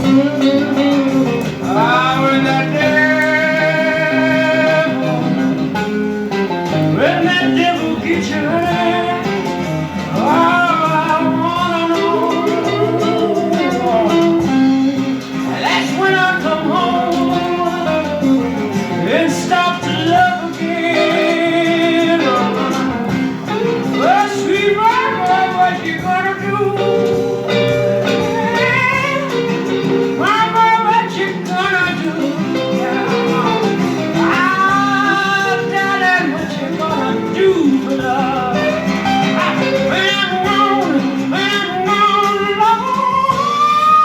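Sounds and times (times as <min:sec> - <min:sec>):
male singer with vibrato: 0:00.0 - 0:05.8, 0:06.7 - 0:44.0
guitar accompaniment: 0:00.0 - 0:44.0.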